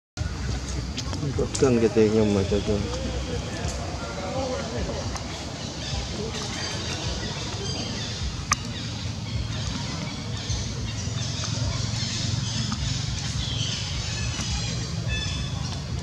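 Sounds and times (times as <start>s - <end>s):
low outdoor rumble: 0.2s - 16.0s.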